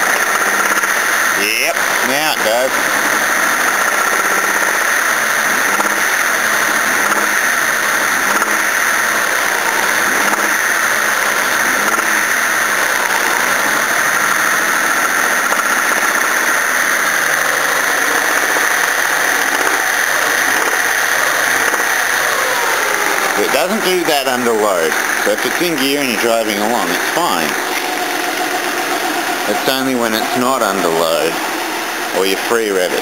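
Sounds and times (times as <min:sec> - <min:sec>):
car engine knocking: 0:01.8 - 0:33.0.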